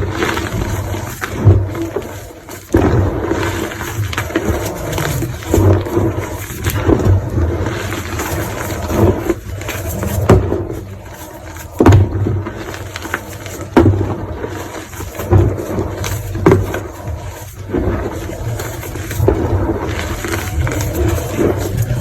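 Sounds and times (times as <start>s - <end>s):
crunching and crumbling: 0.0s - 22.0s.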